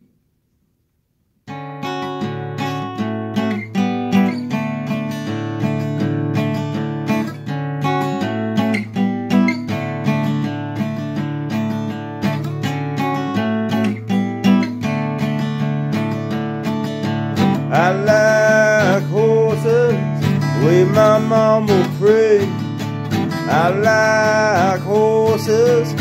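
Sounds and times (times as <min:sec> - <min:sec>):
acoustic guitar strumming: 0:01.5 - 0:26.0.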